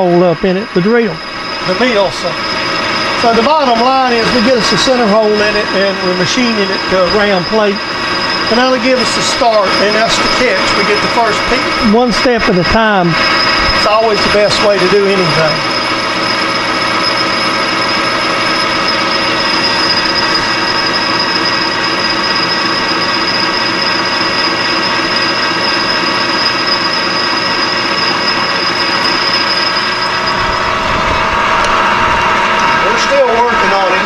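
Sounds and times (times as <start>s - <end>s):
high-pitched ring: 0.0s - 34.0s
metal lathe cutting aluminum: 0.0s - 34.0s.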